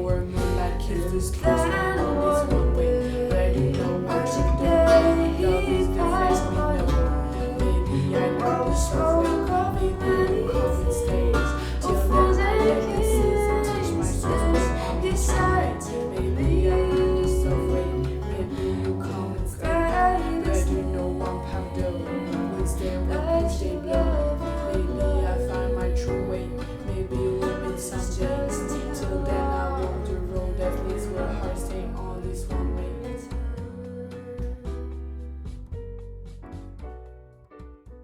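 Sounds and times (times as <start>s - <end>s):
woman singing: 0.0s - 35.4s.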